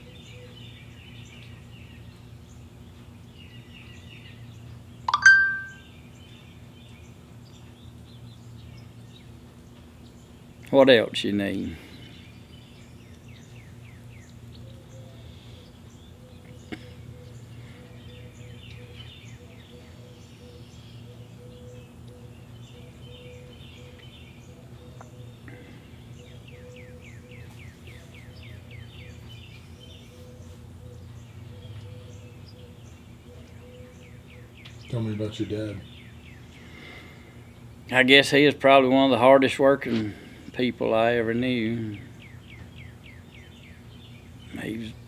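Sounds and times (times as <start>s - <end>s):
low mechanical hum: 0.0s - 45.0s
songbirds chirping: 0.0s - 45.0s.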